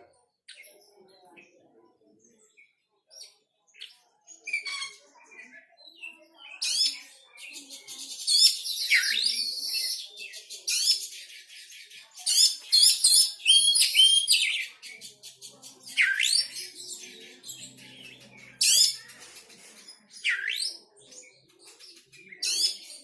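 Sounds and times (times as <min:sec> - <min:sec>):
songbird chirps and trills: 0:00.0 - 0:23.0.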